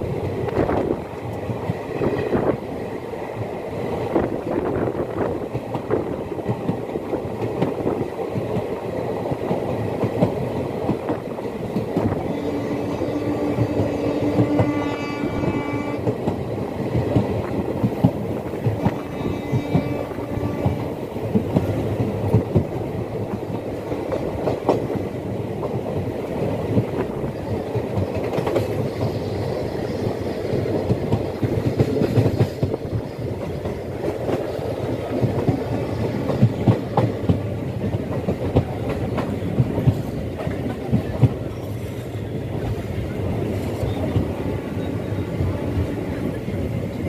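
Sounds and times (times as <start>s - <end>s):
train rumble: 0.0s - 47.0s.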